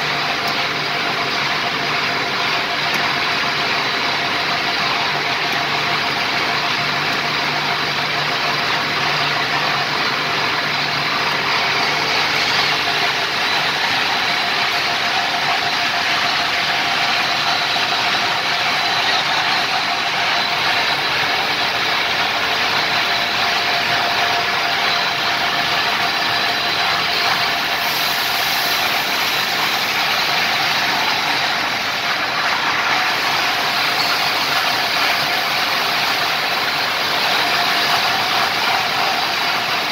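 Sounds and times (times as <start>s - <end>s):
extrusion machine running: 0.0s - 39.9s
motor and roller whine: 0.0s - 39.9s.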